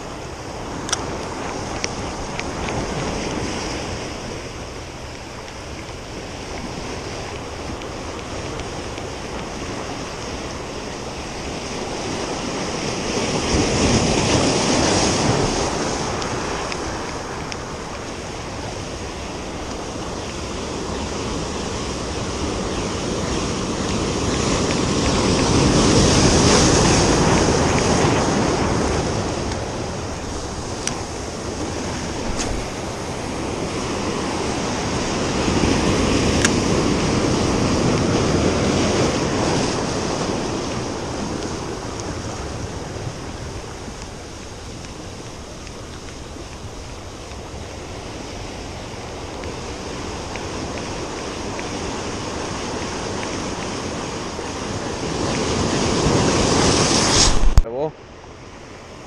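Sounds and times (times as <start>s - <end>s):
wind buffeting microphone: 0.0s - 57.6s
surf washing over rocks: 0.0s - 59.0s.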